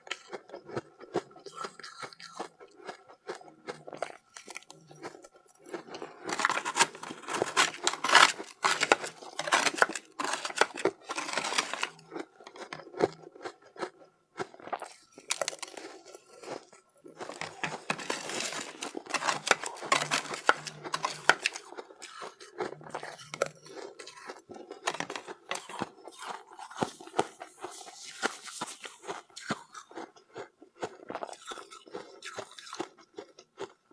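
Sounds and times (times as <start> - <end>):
ice being chewed: 0.0 - 33.9.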